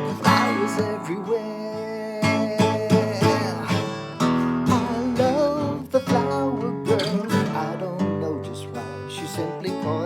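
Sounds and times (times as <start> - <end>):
acoustic guitar strumming: 0.0 - 10.0
person singing: 0.0 - 10.0.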